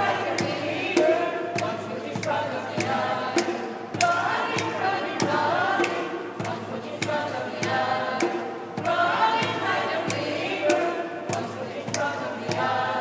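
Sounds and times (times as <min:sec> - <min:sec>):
mixed choir singing: 0:00.0 - 0:13.0
steady percussive beat: 0:00.0 - 0:13.0.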